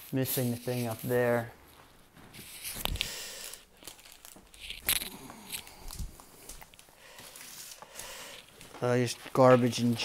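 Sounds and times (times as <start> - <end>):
rustling and crinkling: 0.0 - 10.0.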